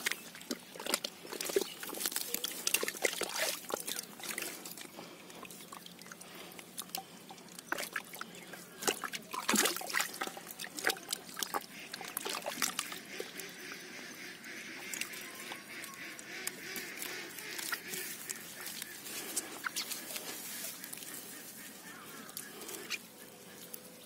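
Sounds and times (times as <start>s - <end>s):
water splashing and dripping: 0.0s - 21.3s
hands squelching in mud: 0.0s - 23.9s.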